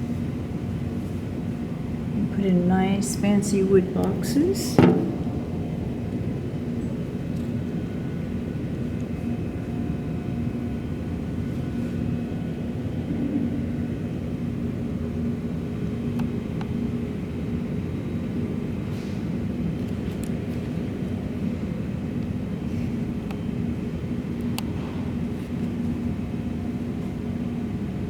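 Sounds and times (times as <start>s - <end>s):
faint hum: 0.0s - 28.0s
low mechanical rumble: 0.0s - 28.0s.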